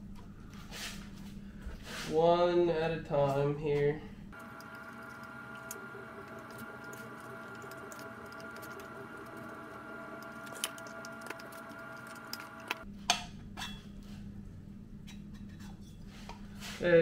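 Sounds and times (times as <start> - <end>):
faint steady hum: 2.7 - 16.6.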